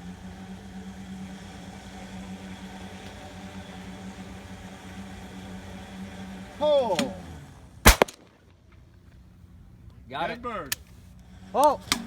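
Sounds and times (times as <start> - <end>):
low mechanical motor hum: 0.0 - 10.1, 10.8 - 12.0.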